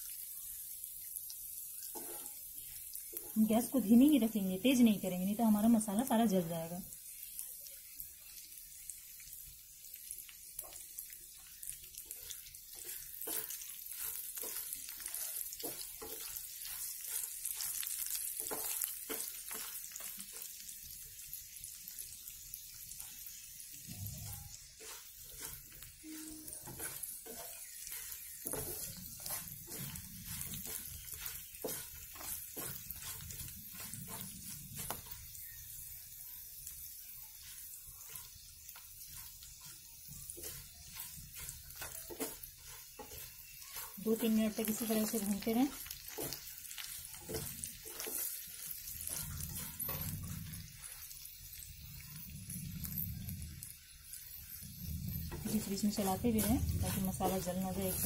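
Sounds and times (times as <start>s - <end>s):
spices sizzling and crackling in oil: 0.0s - 58.0s
wooden spatula stirring: 1.8s - 4.4s, 10.5s - 22.0s, 22.6s - 58.0s.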